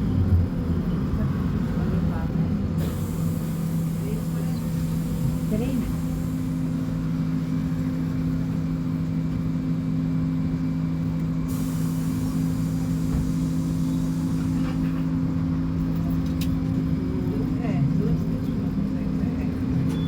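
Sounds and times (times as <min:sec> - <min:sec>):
diesel bus engine humming: 0:00.0 - 0:20.0.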